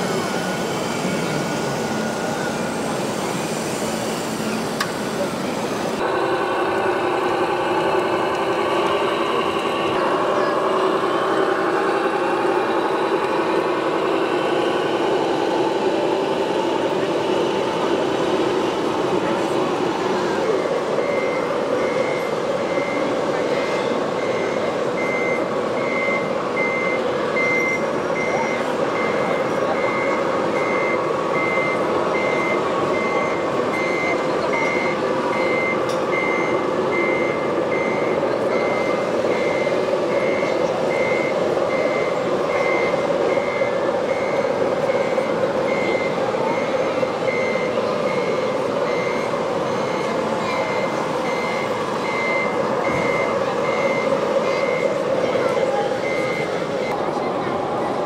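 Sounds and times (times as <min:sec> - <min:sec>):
steady background noise: 0:00.0 - 0:58.0
reversing beeper: 0:06.0 - 0:57.2.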